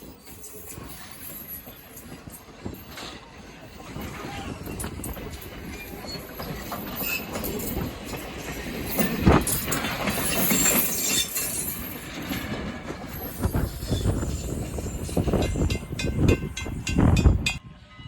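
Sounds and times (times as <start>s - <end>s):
train wheels clattering on rails: 0.0s - 17.6s
wheels clacking over rail joints: 0.2s - 17.6s.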